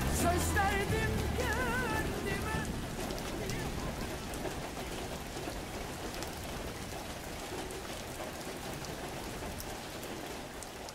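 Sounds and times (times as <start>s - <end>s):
steady rain: 0.0s - 10.9s.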